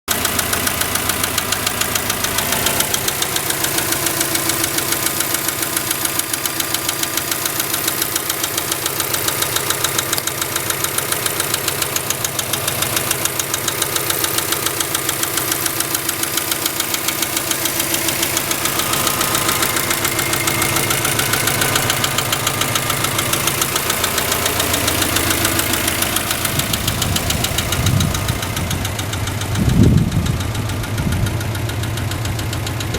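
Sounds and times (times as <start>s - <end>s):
car engine running: 0.1s - 32.9s
rapid engine knock: 0.1s - 32.9s.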